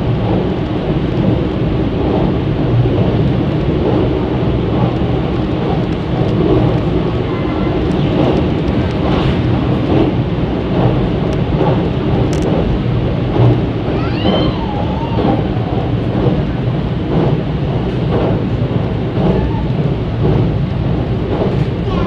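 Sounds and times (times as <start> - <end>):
train wheels rumbling on rails: 0.0 - 22.0
faint clicks of rails: 0.1 - 22.0.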